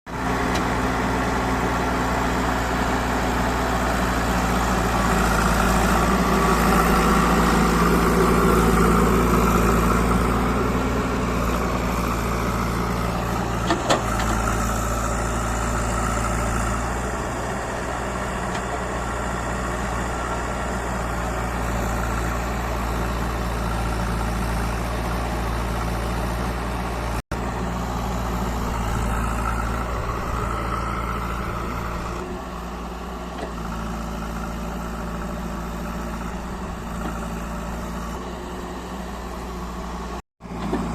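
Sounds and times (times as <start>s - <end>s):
backhoe diesel engine running: 0.1s - 40.9s.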